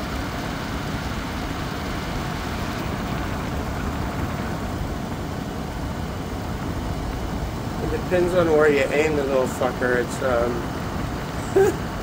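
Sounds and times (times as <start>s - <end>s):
air conditioner fan running: 0.0s - 12.0s.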